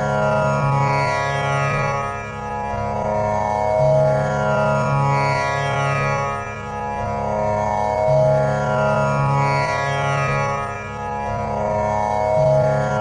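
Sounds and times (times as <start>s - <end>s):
tanpura drone: 0.0s - 13.0s.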